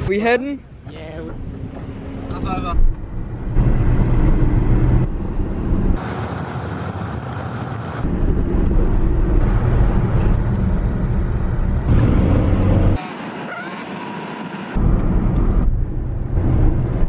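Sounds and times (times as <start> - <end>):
road and engine rumble: 0.0 - 17.0
wind noise in car: 1.1 - 13.6, 14.7 - 17.0.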